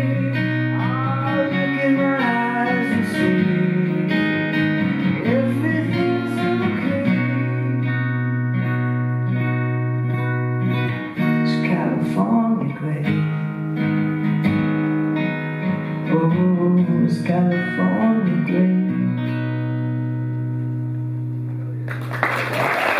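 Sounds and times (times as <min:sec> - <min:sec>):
acoustic guitar strummed and picked: 0:00.0 - 0:22.1.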